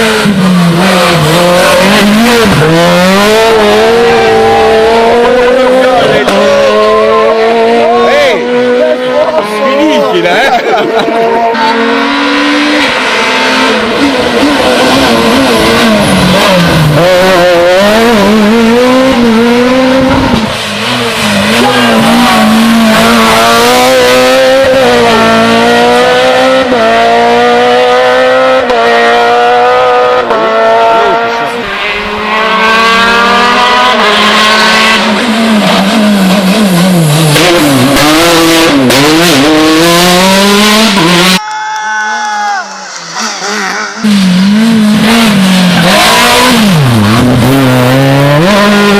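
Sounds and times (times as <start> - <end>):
rally car engine revving: 0.0 - 41.4, 42.7 - 48.9.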